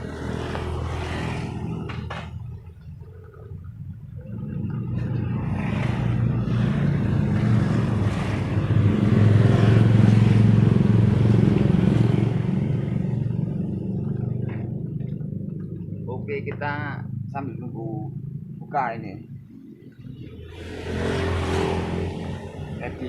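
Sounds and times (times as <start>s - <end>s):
vehicle engine passing by: 0.0s - 23.0s.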